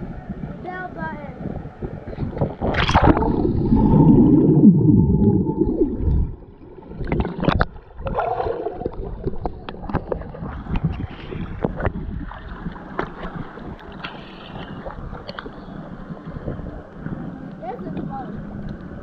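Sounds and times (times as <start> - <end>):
underwater bubbles gurgling: 2.1 - 19.0
water lapping against camera: 2.1 - 19.0.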